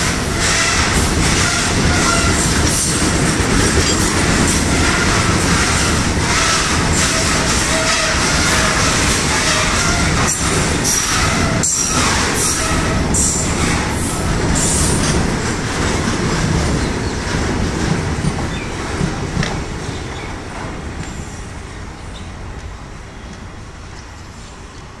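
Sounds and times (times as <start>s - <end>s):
wheels clacking over rail joints: 0.0s - 21.3s
freight train wheels rumbling: 0.0s - 25.0s.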